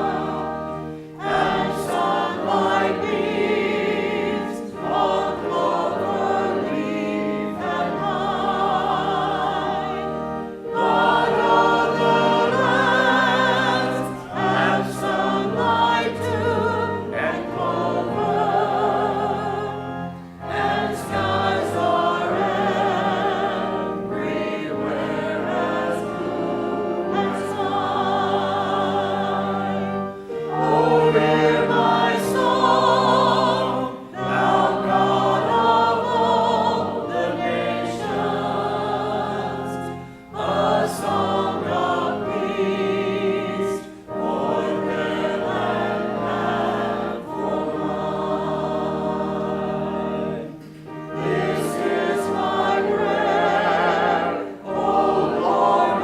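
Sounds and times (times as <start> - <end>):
congregation singing a hymn: 0.0 - 56.0
sustained instrumental accompaniment: 0.0 - 56.0.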